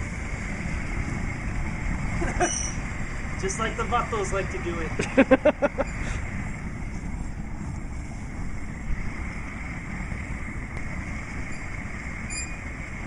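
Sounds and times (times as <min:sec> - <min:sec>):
propane burner rushing: 0:00.0 - 0:13.0.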